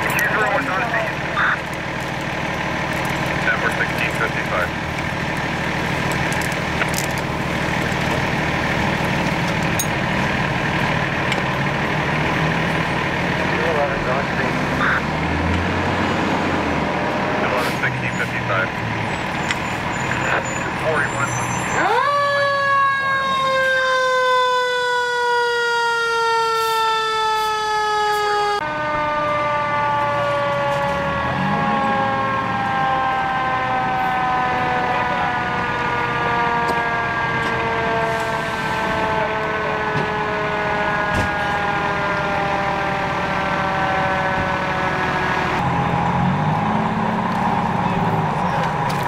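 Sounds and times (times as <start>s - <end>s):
fire engine siren wailing: 0.0s - 49.0s.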